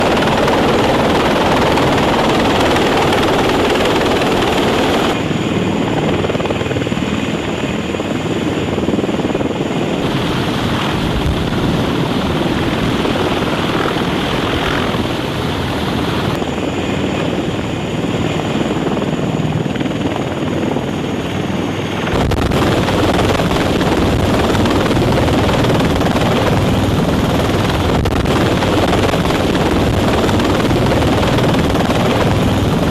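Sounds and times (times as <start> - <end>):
helicopter rotor and turbine noise: 0.0 - 32.9.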